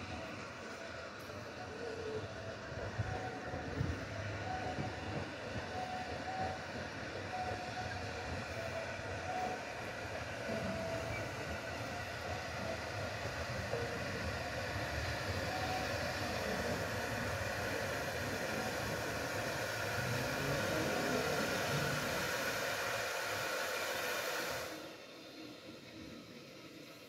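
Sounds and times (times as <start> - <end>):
steam train running: 0.0 - 27.0.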